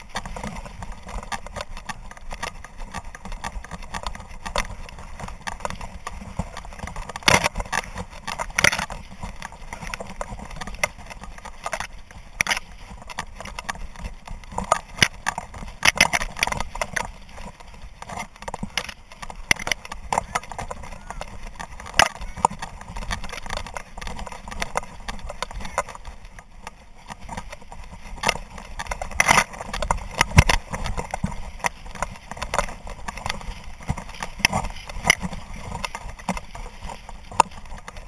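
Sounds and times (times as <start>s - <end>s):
dry grass brushing: 0.0s - 38.0s
wind rumble on microphone: 0.0s - 38.0s.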